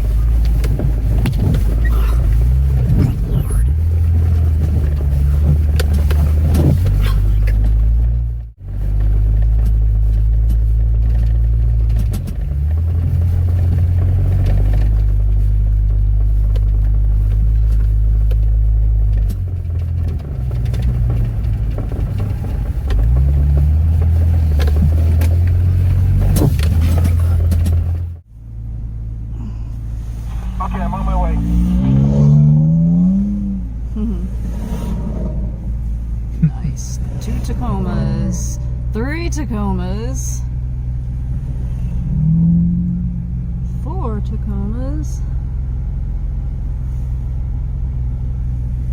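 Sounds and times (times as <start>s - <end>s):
vehicle engine droning under load: 0.0s - 48.9s.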